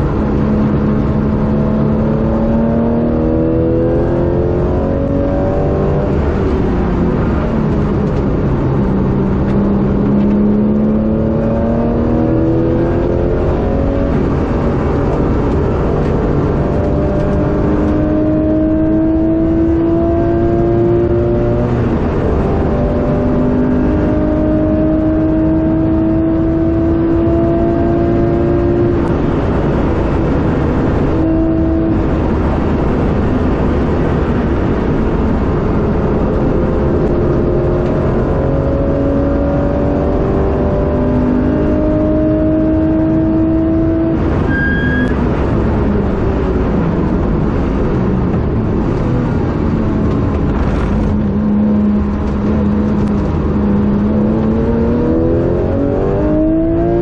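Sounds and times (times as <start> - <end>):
car engine accelerating: 0.0 - 57.0
road and wind noise: 0.0 - 57.0.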